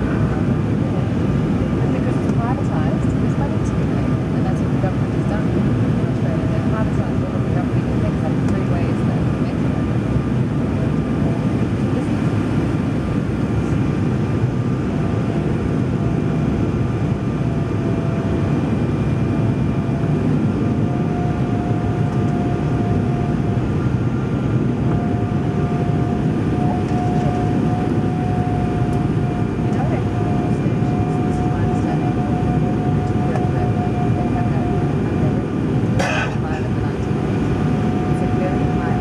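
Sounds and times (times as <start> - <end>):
airflow and jet engine rush: 0.0 - 39.0.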